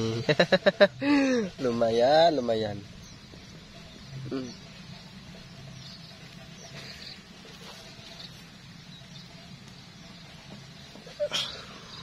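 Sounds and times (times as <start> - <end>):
faint bird chirps: 0.0 - 12.0
steady low hum: 0.0 - 12.0.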